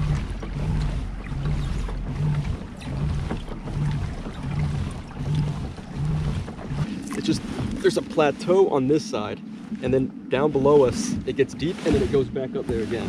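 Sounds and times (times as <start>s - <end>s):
rhythmic low hum: 0.0s - 13.0s
water noise: 0.0s - 13.0s
wind noise: 0.0s - 13.0s.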